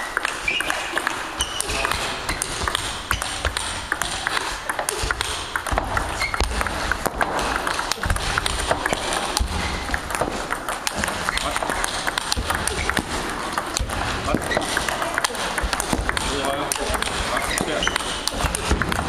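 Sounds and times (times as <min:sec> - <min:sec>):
table tennis ball clicking: 0:00.2 - 0:19.0.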